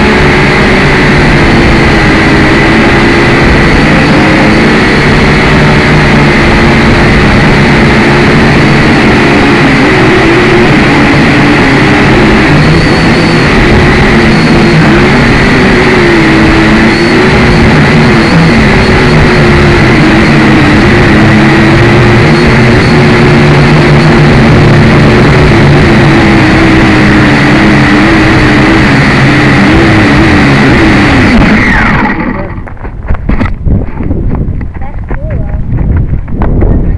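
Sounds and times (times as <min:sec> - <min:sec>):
quadcopter motors whirring: 0:00.0 - 0:36.9.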